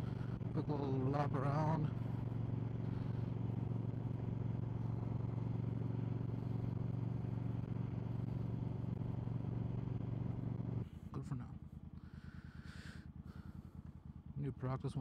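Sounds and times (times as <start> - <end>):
motorcycle engine humming: 0.0 - 15.0.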